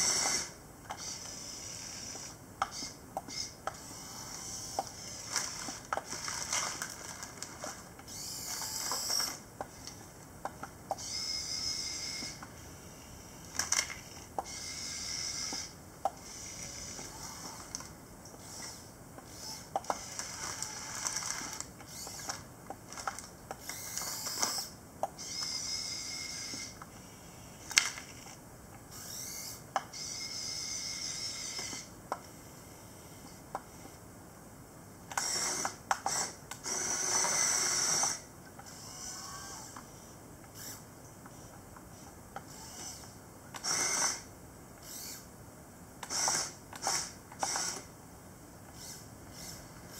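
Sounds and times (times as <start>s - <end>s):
small electric motors whining: 0.0s - 10.1s, 10.9s - 34.0s, 35.1s - 45.3s, 46.0s - 47.9s, 48.7s - 49.9s.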